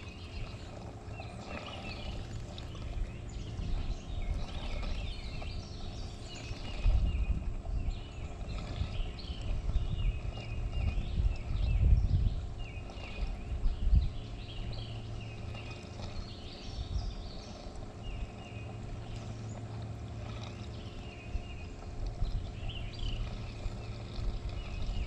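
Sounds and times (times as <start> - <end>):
steady low hum: 0.0 - 25.0
birds chirping and singing: 0.1 - 19.6, 20.7 - 25.0.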